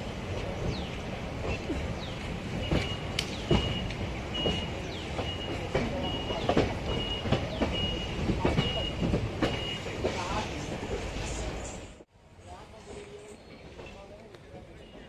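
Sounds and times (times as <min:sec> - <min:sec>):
low train rumble: 0:00.0 - 0:15.0.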